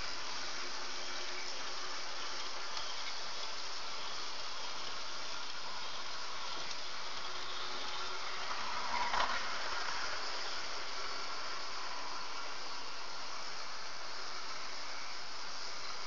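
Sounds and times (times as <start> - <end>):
model train running on track: 0.0 - 16.0
steady hiss: 0.0 - 16.0.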